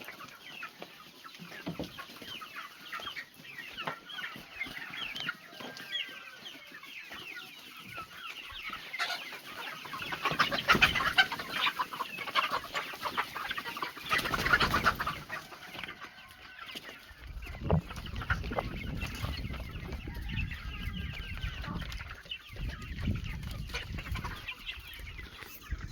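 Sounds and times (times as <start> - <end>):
chickens clucking and cheeping: 0.0 - 25.9.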